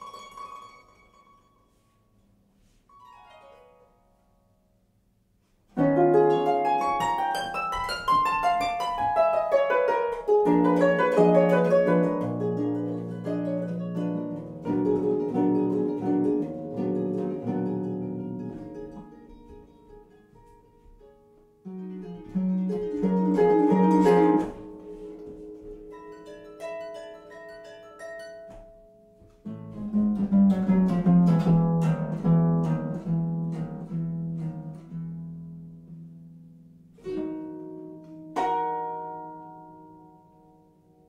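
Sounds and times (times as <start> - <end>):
harp playing: 0.0 - 4.7, 5.8 - 41.0.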